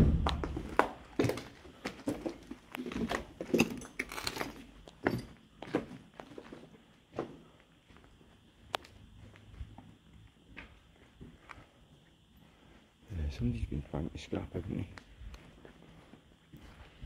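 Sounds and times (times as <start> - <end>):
footsteps crunching on debris: 0.0 - 11.7, 15.0 - 17.0.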